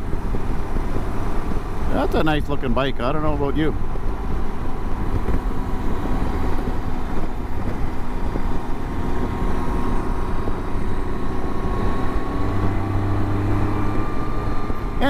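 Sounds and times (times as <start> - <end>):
motorcycle engine drone: 0.0 - 15.0
rushing wind: 0.0 - 15.0.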